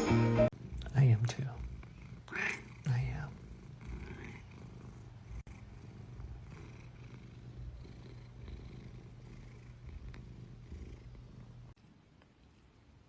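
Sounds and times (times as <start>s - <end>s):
cat purring: 0.5s - 13.0s.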